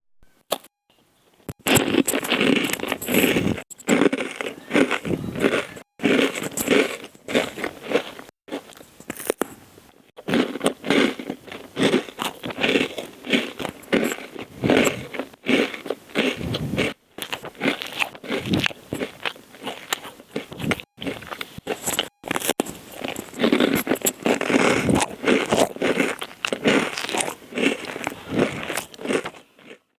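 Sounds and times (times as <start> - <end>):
crusty bread crunching: 1.5 - 9.6, 10.2 - 30.0.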